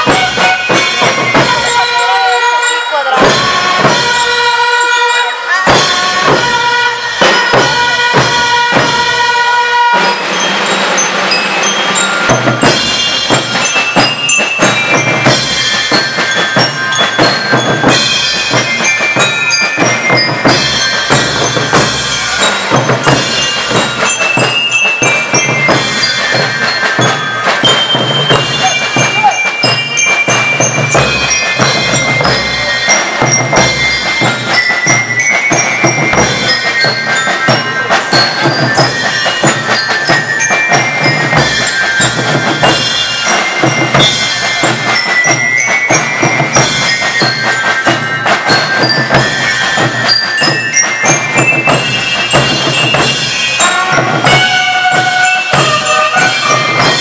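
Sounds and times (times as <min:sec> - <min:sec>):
snare and bass drums: 0:00.0 - 0:01.8, 0:09.9 - 0:57.0
bell lyres playing melody: 0:00.0 - 0:57.0.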